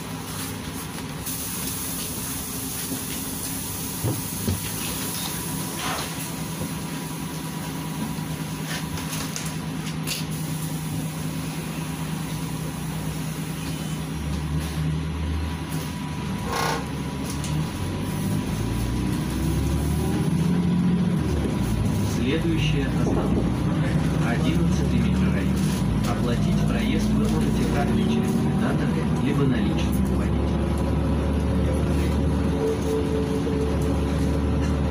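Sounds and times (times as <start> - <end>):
bus engine hum: 0.0 - 34.9
road noise: 0.0 - 34.9.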